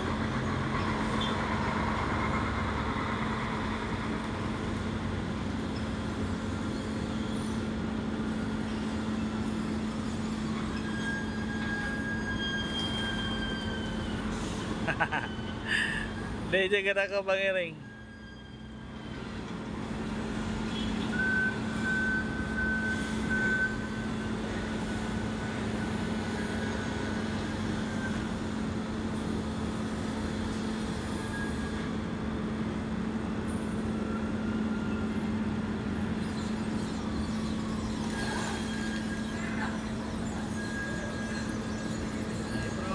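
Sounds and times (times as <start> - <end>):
heavy machinery engines droning: 0.0 - 42.9.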